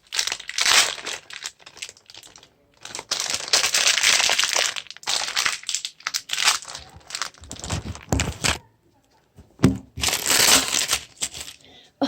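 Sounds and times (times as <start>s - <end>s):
plastic wrapper crinkling: 0.0s - 8.6s, 9.4s - 11.7s.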